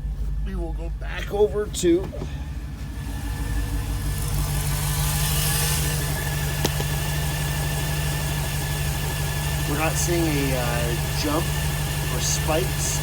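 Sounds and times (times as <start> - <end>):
engine idling with misfire: 0.0 - 13.0.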